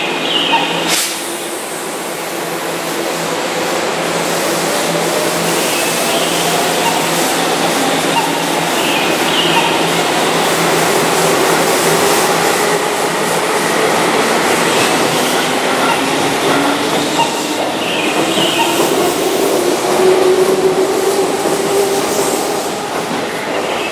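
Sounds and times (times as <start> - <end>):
train wheels on rails: 0.0 - 23.9.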